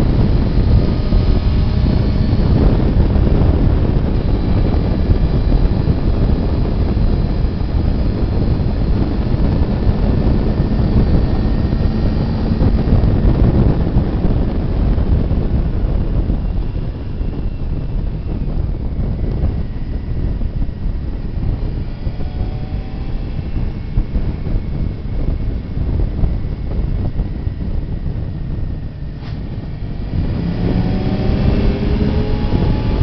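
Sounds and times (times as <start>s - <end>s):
motorcycle engine running: 0.0s - 33.0s
wind rushing over microphone: 0.0s - 33.0s.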